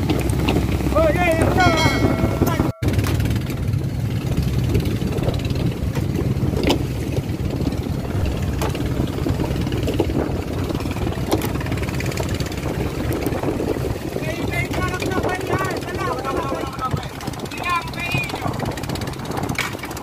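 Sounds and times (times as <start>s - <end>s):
boat engine humming: 0.0s - 20.0s
water splashing along hull: 0.0s - 20.0s.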